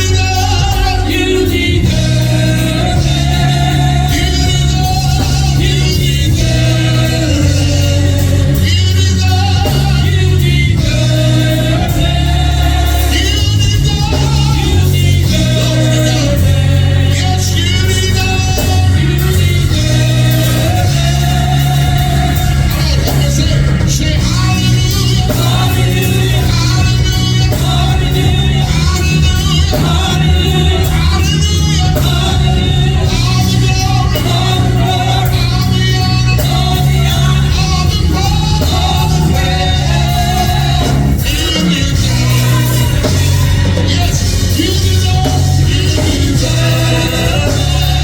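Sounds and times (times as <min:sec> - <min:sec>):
gospel singing: 0:00.0 - 0:48.0
instrumental backing with heavy bass: 0:00.0 - 0:48.0.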